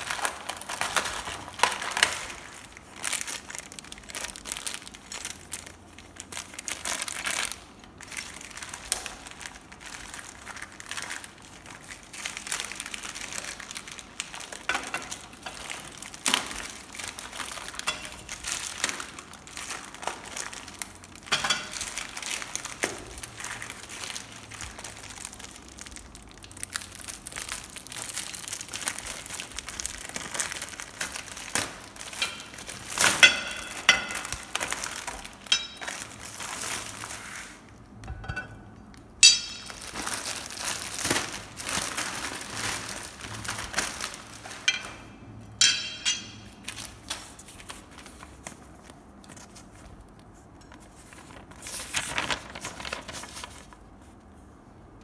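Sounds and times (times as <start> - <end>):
plastic packaging crinkling: 0.0 - 54.5.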